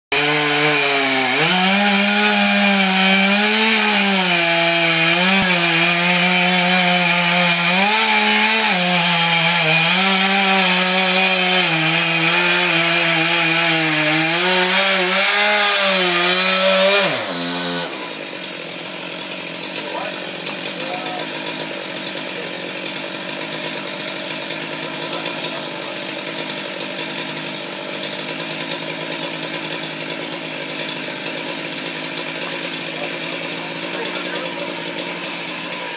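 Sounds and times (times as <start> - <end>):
chainsaw cutting tree trunk: 0.1 - 35.9.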